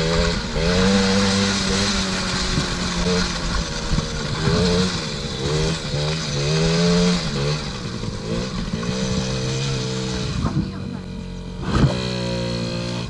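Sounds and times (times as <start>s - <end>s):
two-stroke engine revving: 0.0s - 13.0s.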